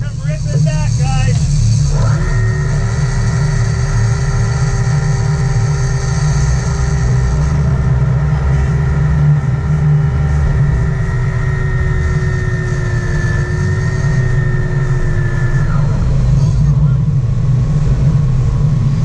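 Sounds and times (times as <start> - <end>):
boat engines rumbling: 0.0 - 19.0
high whine: 0.0 - 19.0.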